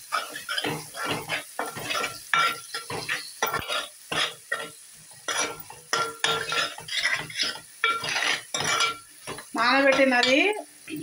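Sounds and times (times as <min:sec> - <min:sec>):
metal ladle scraping a pot: 0:00.0 - 0:10.4
paste frying in oil: 0:00.0 - 0:11.0.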